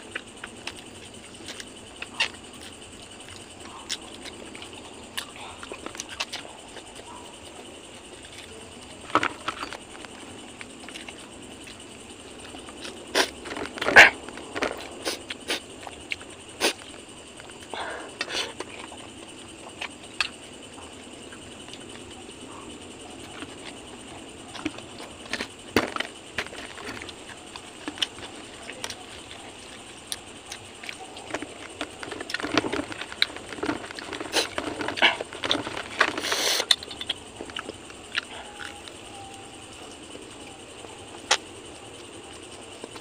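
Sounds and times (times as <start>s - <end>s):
chewing and lip-smacking: 0.0s - 43.0s.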